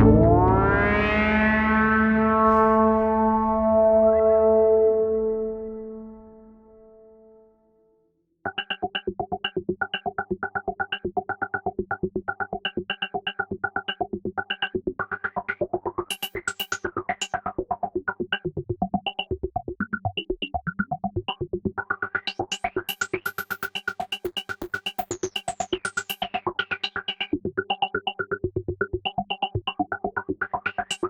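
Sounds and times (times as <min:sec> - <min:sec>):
synthesizer playing fast notes: 0:00.0 - 0:03.8, 0:08.5 - 0:31.0.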